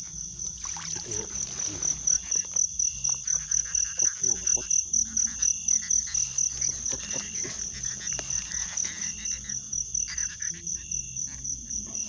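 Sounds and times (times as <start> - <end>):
insects trilling: 0.0 - 12.0
lower insect call: 0.0 - 12.0.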